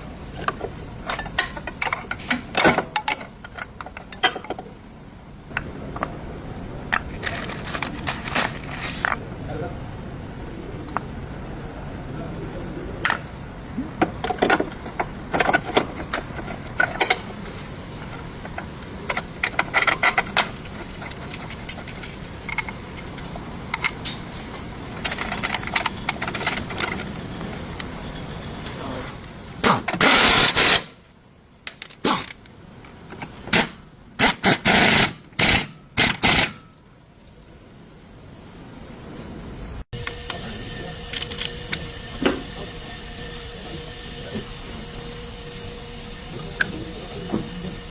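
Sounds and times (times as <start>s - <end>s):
steady background noise: 0.0s - 47.9s.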